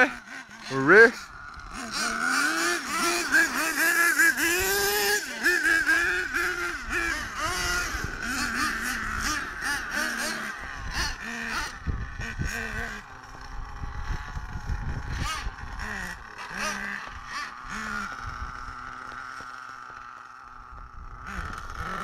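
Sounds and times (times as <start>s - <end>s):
nitro engines revving: 0.0s - 22.0s.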